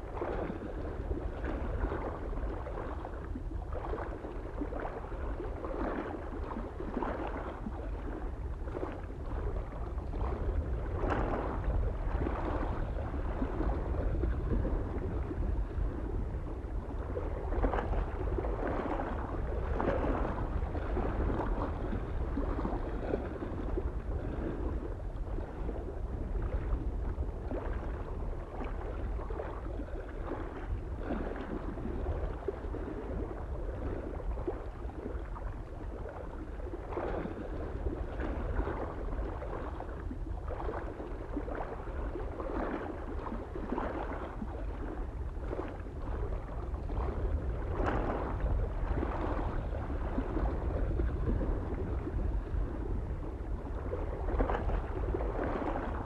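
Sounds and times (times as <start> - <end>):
low wind rumble: 0.0 - 56.0
small waves lapping on shore: 0.0 - 56.0.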